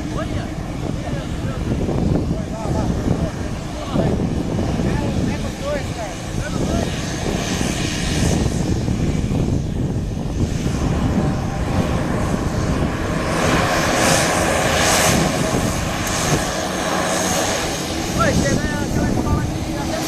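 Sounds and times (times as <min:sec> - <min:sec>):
propeller plane taxiing: 0:00.0 - 0:20.0.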